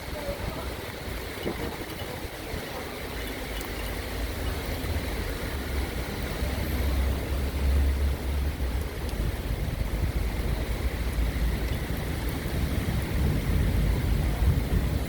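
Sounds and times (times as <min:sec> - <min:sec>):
rain: 0:00.0 - 0:15.0
wind rumbling on microphone: 0:00.0 - 0:15.0.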